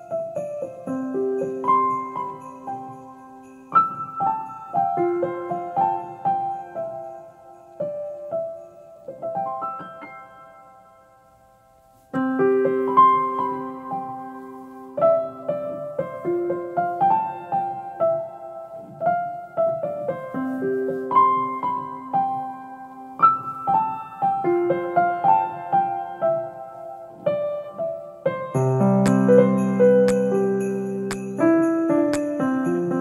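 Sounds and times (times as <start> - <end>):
piano melody: 0.0 - 33.0.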